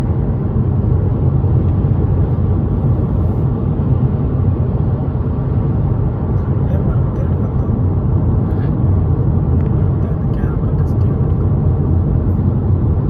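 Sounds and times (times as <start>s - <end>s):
car driving at highway speed: 0.0s - 13.0s.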